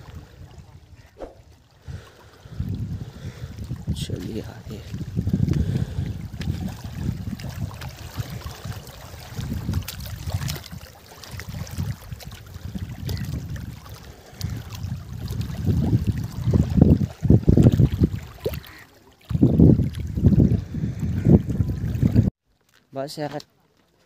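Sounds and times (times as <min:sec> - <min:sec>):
wind buffeting microphone: 0:00.0 - 0:22.3.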